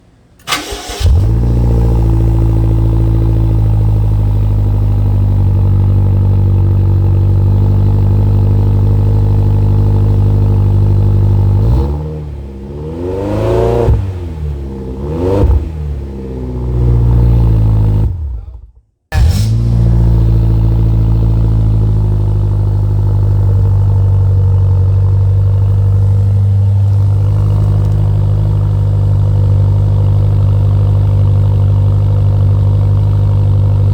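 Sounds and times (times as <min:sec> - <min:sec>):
car engine idling and revving: 0:00.4 - 0:33.9.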